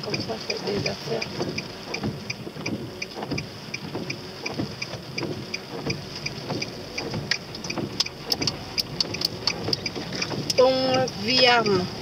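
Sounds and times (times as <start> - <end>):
engine and road noise: 0.0 - 12.0
turn signal ticking: 0.0 - 12.0
sharp clicks: 0.1 - 11.6.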